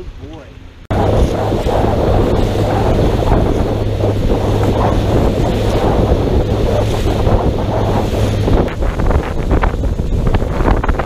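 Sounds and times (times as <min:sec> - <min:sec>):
outboard motor hum: 0:00.0 - 0:11.0
water rushing along hull: 0:00.0 - 0:11.0
wind buffeting microphone: 0:00.9 - 0:11.0.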